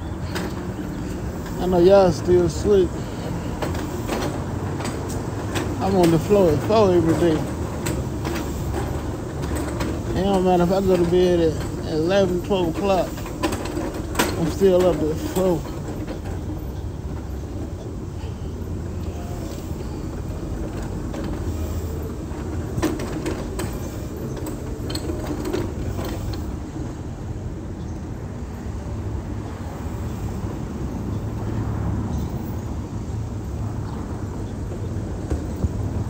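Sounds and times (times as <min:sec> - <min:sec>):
wheelchair wheels rumbling on pavement: 0:00.0 - 0:29.0, 0:29.6 - 0:36.0.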